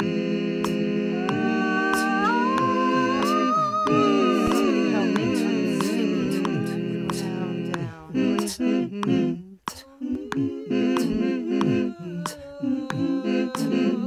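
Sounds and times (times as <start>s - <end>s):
person humming rhythmic notes: 0.0s - 14.0s
sharp clicks keeping a beat: 0.0s - 14.0s.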